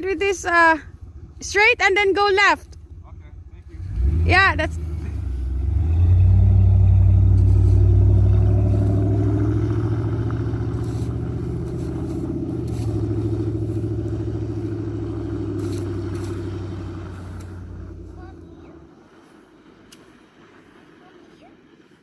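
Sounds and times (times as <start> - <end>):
vehicle engine pulling away: 2.9 - 22.0.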